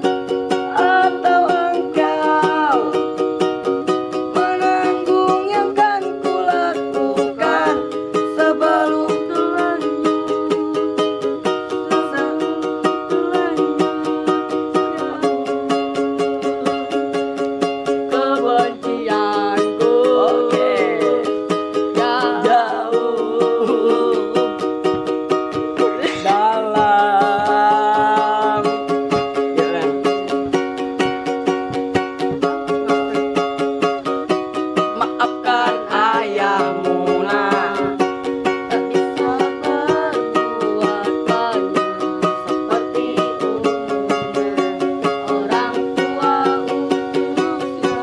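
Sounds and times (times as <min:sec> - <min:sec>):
ukulele strumming: 0:00.0 - 0:48.0
wavering melody line: 0:00.0 - 0:48.0.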